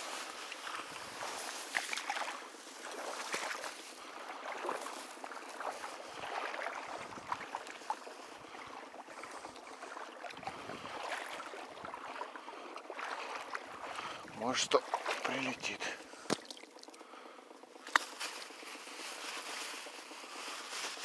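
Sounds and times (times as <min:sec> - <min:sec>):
marsh water sloshing and splashing: 0:00.1 - 0:17.0.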